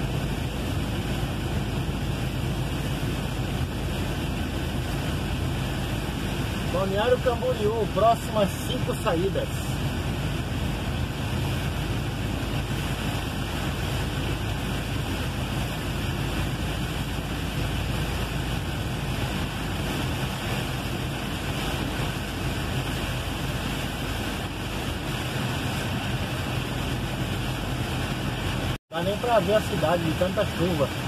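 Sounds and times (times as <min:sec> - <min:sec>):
heavy rain on a truck cab: 0:00.0 - 0:31.0
tyres on a flooded road: 0:00.0 - 0:31.0.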